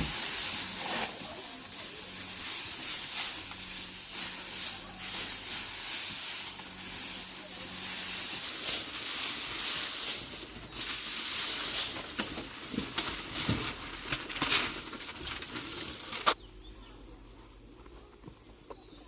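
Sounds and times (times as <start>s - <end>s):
rustling and swishing: 0.0s - 16.4s.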